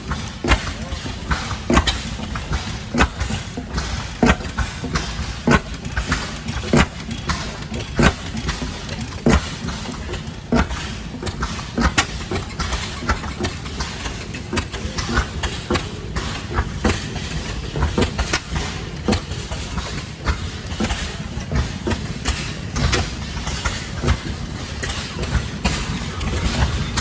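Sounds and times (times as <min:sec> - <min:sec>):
engine exhaust pops: 0:00.0 - 0:27.0
gas engines running: 0:00.0 - 0:27.0.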